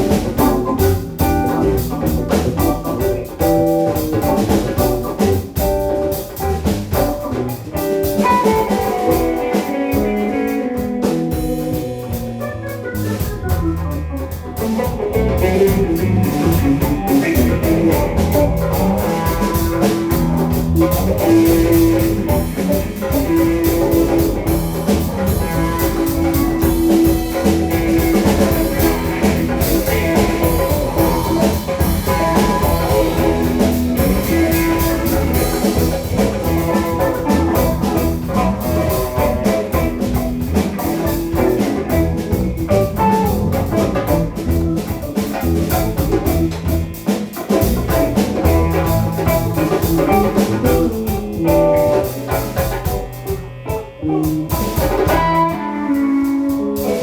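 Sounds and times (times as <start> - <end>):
live blues-rock band: 0.0 - 57.0.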